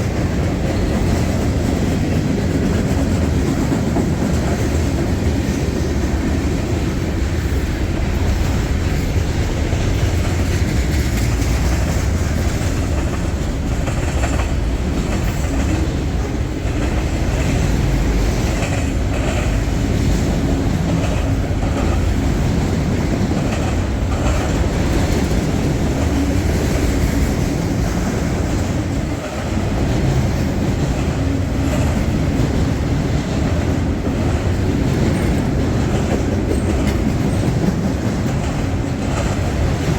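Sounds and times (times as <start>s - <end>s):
freight train cars rolling: 0.0s - 39.9s.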